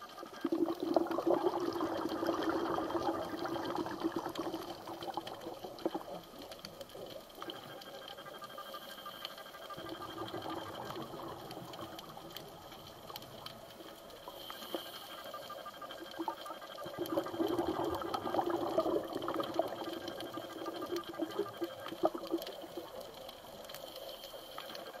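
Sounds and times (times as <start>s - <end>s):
underwater bubbling rush: 0.2s - 8.6s, 9.6s - 23.9s.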